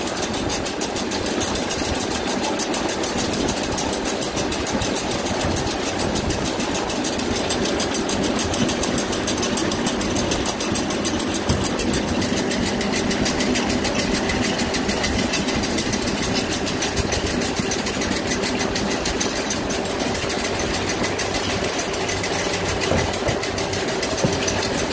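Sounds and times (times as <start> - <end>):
rope-making machinery beating: 0.0 - 24.9.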